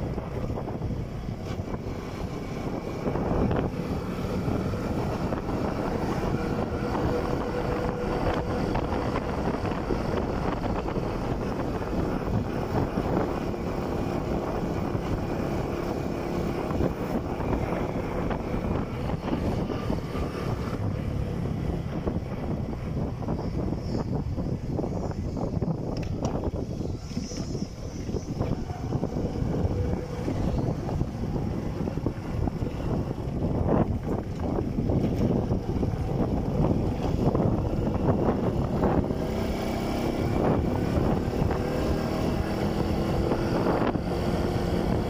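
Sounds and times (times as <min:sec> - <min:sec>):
motorcycle engine running: 0:00.0 - 0:45.0
road noise: 0:00.0 - 0:45.0
wind on microphone: 0:00.0 - 0:45.0.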